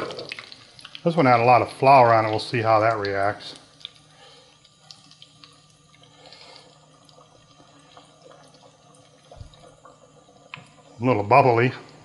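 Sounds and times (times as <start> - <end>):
deep-frying sizzle with crackles: 0.0 - 12.0.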